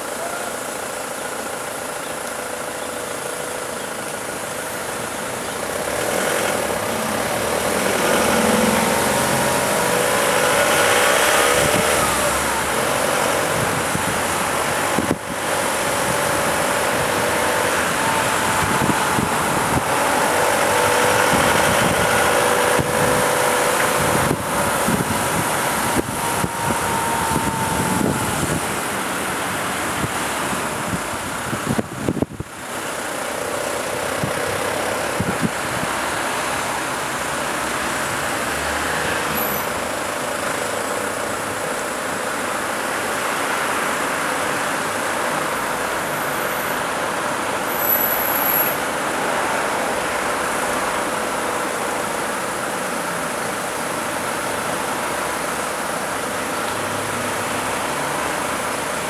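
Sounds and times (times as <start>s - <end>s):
slow city road traffic: 0.0s - 59.0s.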